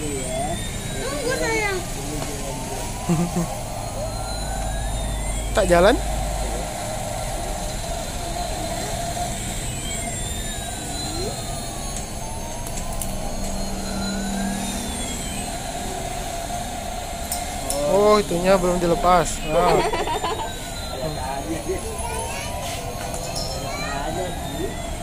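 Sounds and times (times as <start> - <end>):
electronic drone: 0.0 - 25.0
toy siren-like wail: 0.0 - 25.0.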